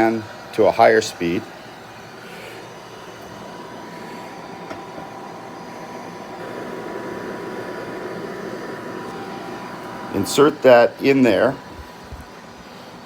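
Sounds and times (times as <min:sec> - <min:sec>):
thin steady whine: 0:00.0 - 0:13.0
heat gun blowing air: 0:01.5 - 0:13.0.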